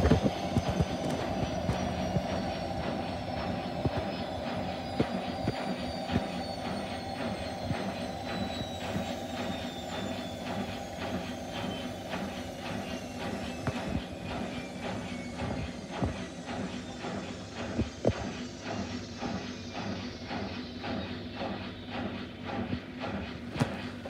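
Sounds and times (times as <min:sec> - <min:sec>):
motor whine: 0:00.0 - 0:24.0
washing machine drum spinning: 0:00.0 - 0:24.0.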